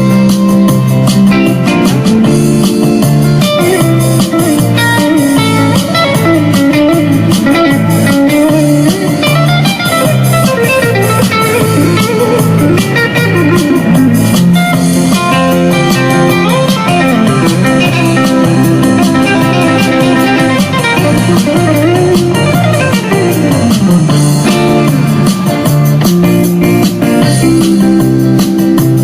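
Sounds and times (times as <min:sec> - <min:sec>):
blues electric guitar music: 0:00.0 - 0:29.0.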